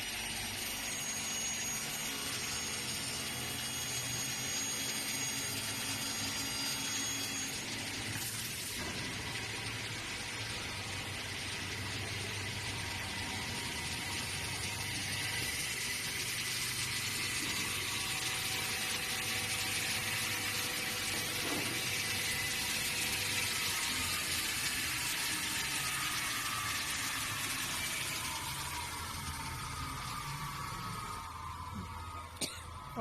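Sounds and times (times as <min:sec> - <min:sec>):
table saw running: 0:00.0 - 0:33.0.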